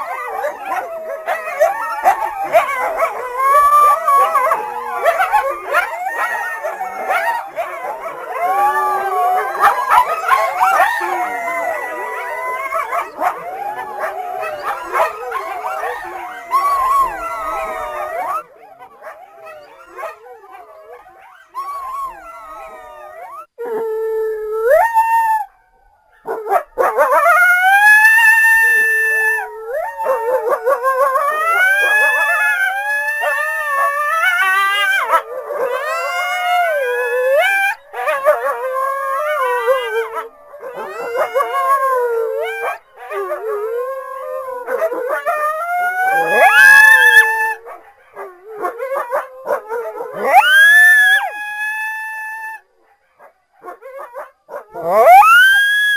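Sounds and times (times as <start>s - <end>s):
coyotes howling and yipping: 0.0s - 55.9s.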